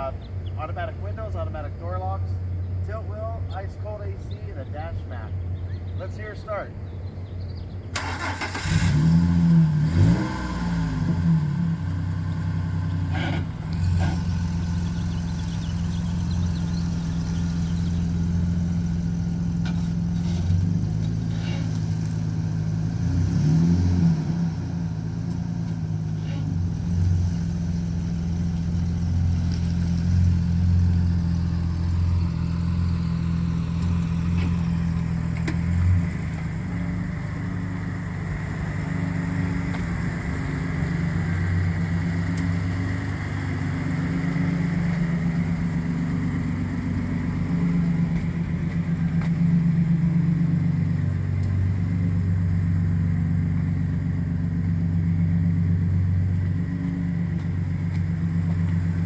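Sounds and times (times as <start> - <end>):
engine idling: 0.0 - 23.0, 24.8 - 59.0.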